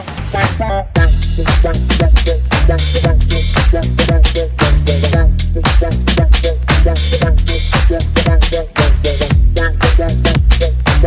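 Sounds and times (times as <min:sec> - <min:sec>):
hip hop beat with bass: 0:00.0 - 0:11.0.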